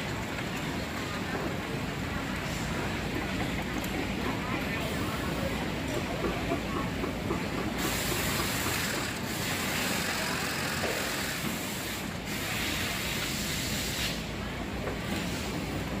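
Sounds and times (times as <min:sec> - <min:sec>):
textile machinery hissing and rumbling: 0:00.0 - 0:16.0.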